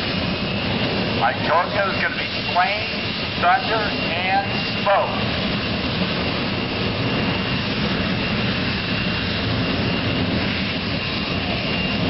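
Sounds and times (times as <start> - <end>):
broad rushing noise: 0.0 - 12.0
turbine engine whine: 0.0 - 12.0.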